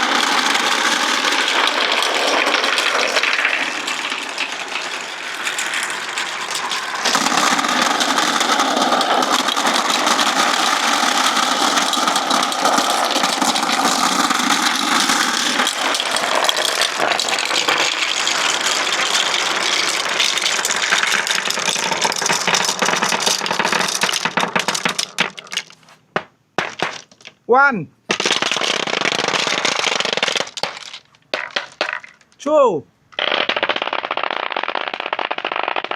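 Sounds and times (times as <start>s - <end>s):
marbles rolling and clattering: 0.0s - 27.5s, 28.1s - 32.5s, 33.1s - 35.9s.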